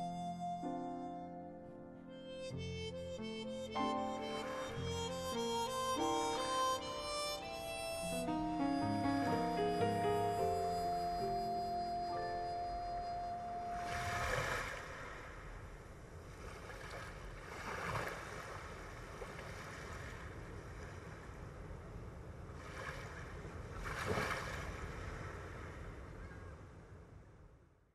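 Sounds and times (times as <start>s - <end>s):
waves washing in: 3.8s - 27.1s.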